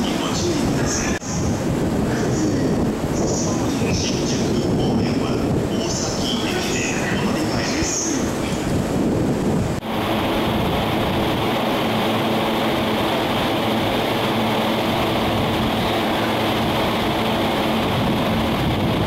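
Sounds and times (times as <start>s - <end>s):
train equipment humming: 0.0s - 19.0s.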